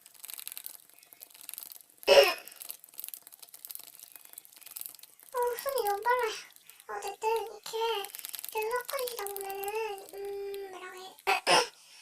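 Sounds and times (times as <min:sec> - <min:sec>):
slime being stirred: 0:00.0 - 0:11.4.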